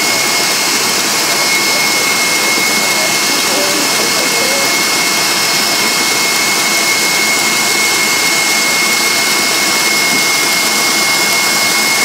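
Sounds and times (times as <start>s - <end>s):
electric mixer whirring: 0.0s - 12.0s.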